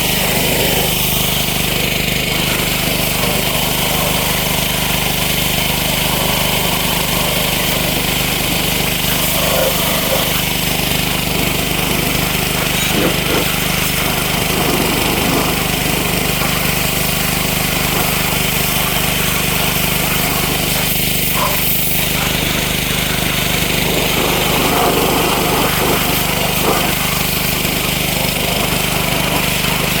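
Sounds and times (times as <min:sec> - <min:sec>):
high-pressure water jet hissing: 0:00.0 - 0:30.0
pressure washer motor humming: 0:00.0 - 0:30.0.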